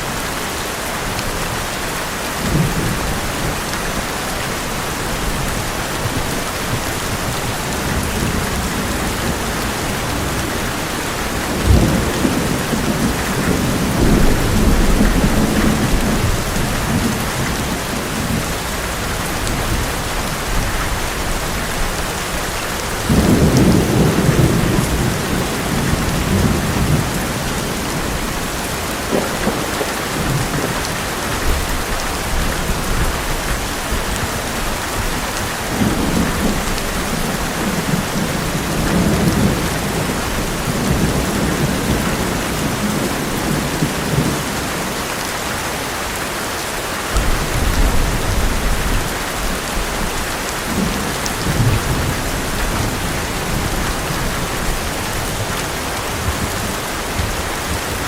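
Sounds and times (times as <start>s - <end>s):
heavy rain on a metal roof: 0.0s - 58.0s
low rolling thunder: 5.0s - 21.8s, 22.9s - 44.8s, 47.1s - 57.9s.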